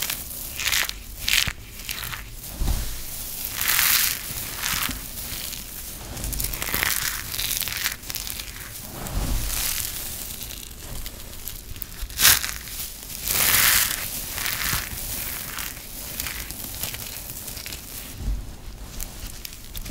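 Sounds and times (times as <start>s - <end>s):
hands crushing dry soap: 0.0s - 18.2s.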